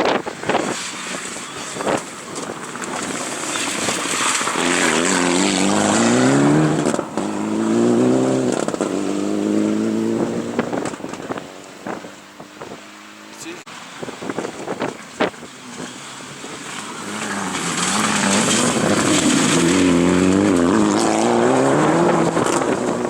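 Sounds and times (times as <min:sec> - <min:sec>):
rally car accelerating past: 0:00.6 - 0:13.3, 0:15.0 - 0:23.0.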